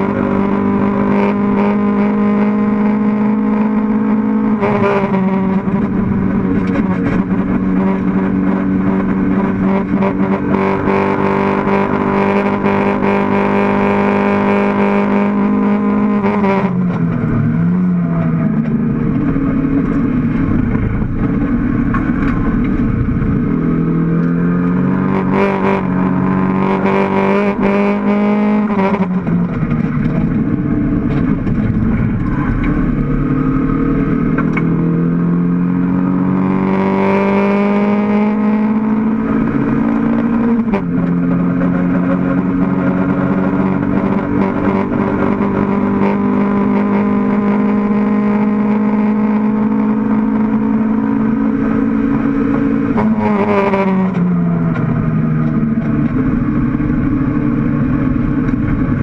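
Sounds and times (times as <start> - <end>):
race car engine under load: 0.0 - 59.0.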